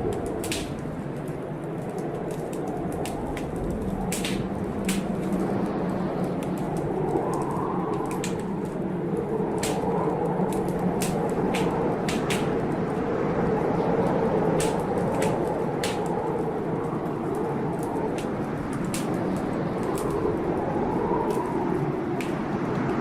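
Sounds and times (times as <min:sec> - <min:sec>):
blizzard wind blowing: 0:00.0 - 0:23.0
wood fire crackling: 0:00.0 - 0:23.0.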